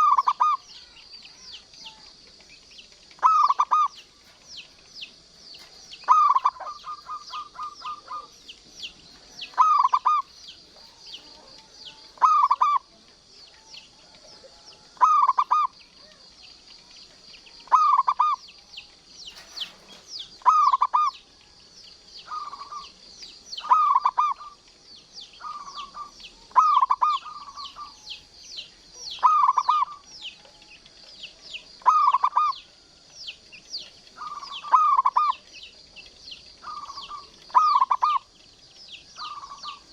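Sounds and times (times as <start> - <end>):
dove cooing: 0.0 - 16.8, 17.6 - 21.6, 22.2 - 33.0, 34.0 - 38.4, 39.1 - 39.9
thin high-pitched chirping: 0.0 - 39.9.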